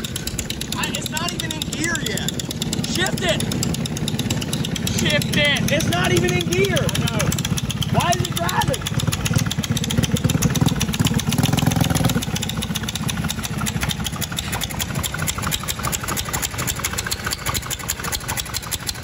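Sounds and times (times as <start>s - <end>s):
mini bike engine idling: 0.0s - 19.0s.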